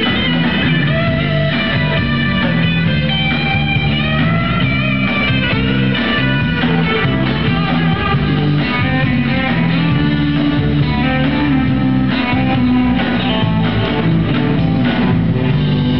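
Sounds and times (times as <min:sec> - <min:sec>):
bass guitar: 0:00.0 - 0:15.9
electric guitar: 0:00.0 - 0:15.9.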